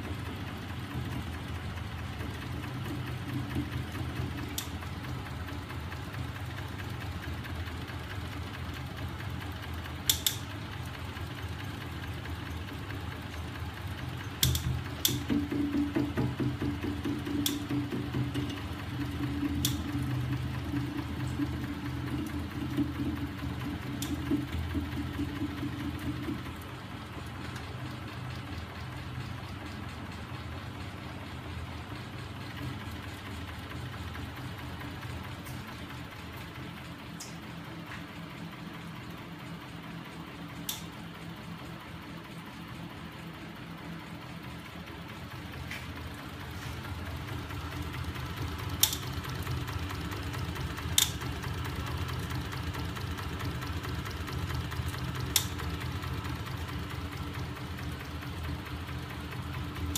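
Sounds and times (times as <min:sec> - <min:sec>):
mechanical hum of motor rig: 0:00.0 - 0:59.9.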